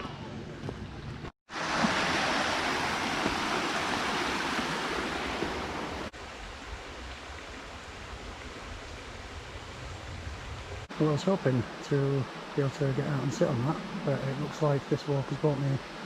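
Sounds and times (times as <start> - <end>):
rushing river water: 1.5 - 16.0.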